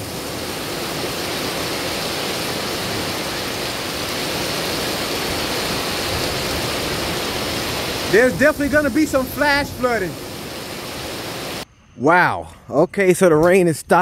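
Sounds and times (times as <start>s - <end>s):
torrential rain pouring: 0.0s - 11.6s.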